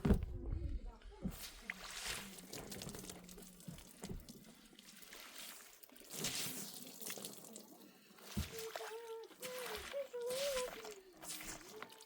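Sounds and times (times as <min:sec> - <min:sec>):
faint trickling water: 0:01.2 - 0:12.0
small ticks and splashes: 0:01.7 - 0:12.0.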